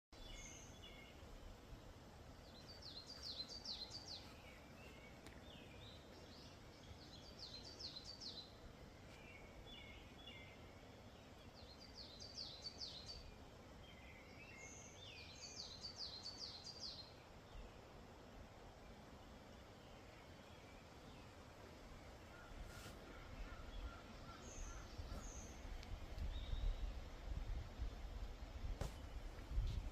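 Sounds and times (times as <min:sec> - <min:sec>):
birdsong: 0:00.2 - 0:01.4, 0:02.2 - 0:29.9
faint background hiss: 0:00.2 - 0:29.9.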